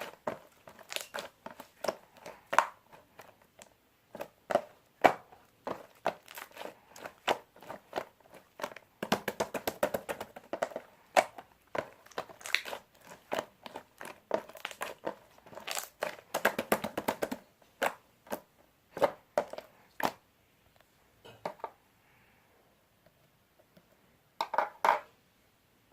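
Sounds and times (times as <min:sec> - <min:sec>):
crinkling and crackling handling noise: 0:00.0 - 0:09.1, 0:10.0 - 0:21.7.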